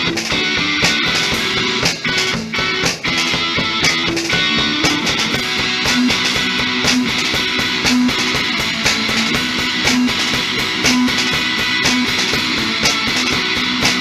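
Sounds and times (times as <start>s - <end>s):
drum and cymbal hits: 0.0s - 14.0s
electric guitar through amplifier: 0.0s - 14.0s.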